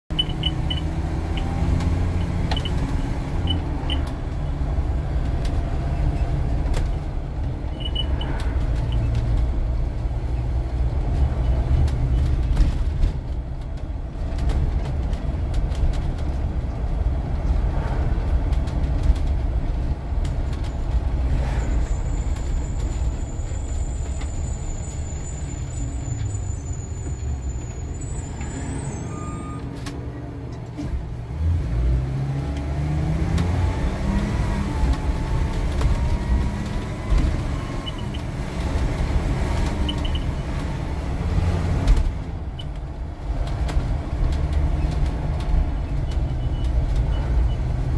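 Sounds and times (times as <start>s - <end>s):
bus engine and road rumble: 0.1s - 47.9s.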